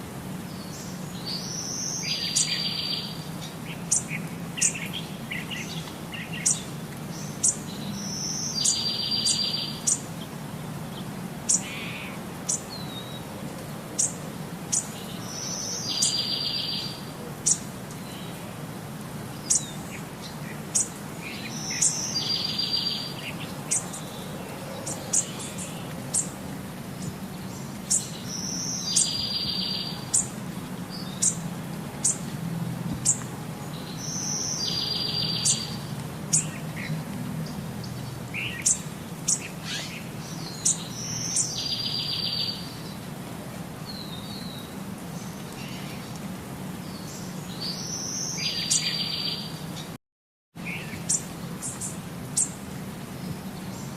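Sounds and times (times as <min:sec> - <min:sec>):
small birds chirping: 0:00.4 - 0:18.6, 0:19.3 - 0:32.3, 0:32.9 - 0:43.1, 0:43.8 - 0:49.9, 0:50.6 - 0:53.9.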